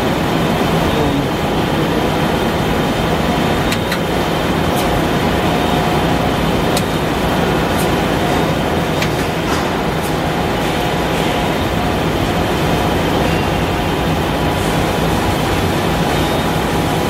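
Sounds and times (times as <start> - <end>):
machine mechanical hum and hiss: 0.0 - 17.0.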